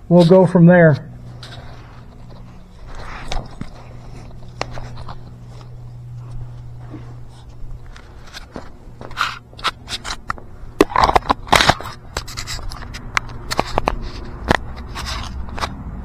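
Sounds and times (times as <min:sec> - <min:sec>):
objects clattering and scraping: 0:00.1 - 0:15.9.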